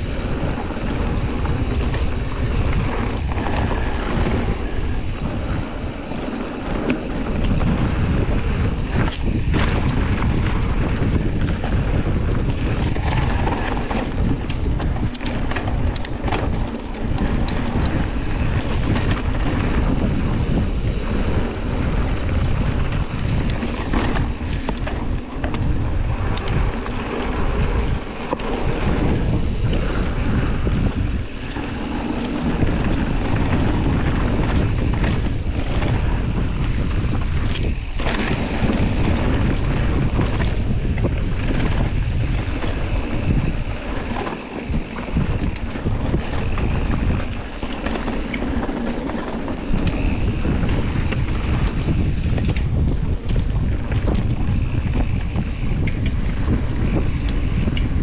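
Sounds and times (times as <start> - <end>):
bike knocks and rattles: 0.0 - 58.0
tyres on dirt trail: 0.0 - 58.0
wind rushing over microphone: 0.0 - 58.0.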